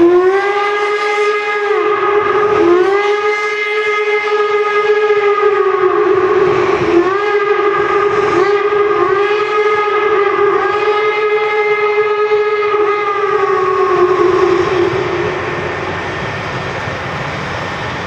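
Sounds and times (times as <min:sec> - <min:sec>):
steam locomotive whistle: 0:00.0 - 0:18.0.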